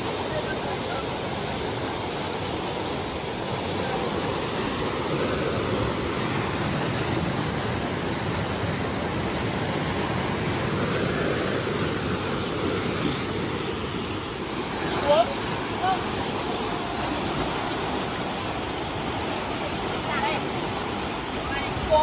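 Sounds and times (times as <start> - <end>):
mountain stream rushing: 0.0 - 22.0.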